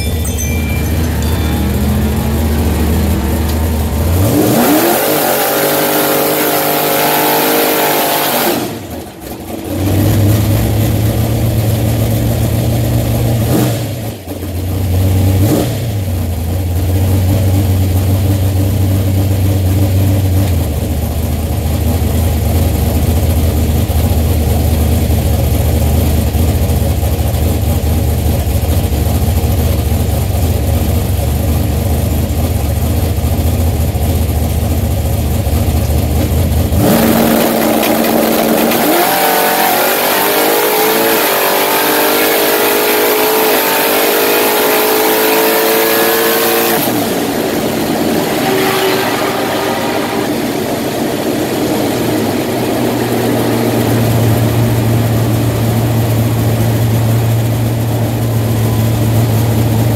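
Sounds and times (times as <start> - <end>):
race car engine accelerating: 0.0 - 22.5, 33.8 - 59.9.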